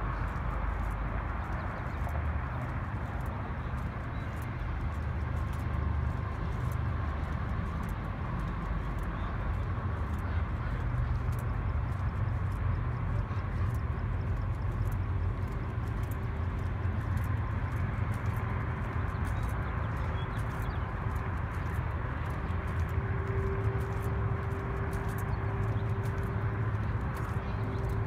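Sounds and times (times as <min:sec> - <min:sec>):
car engines idling and rumbling: 0:00.0 - 0:28.0.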